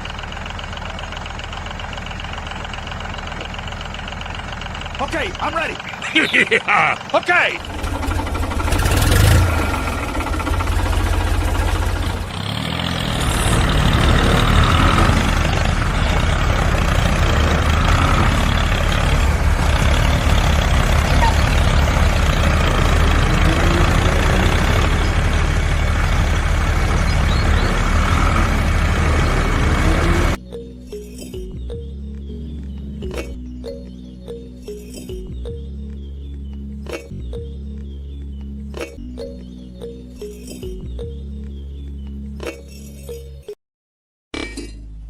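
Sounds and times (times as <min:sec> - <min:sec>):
truck engine running: 0:00.0 - 0:42.2.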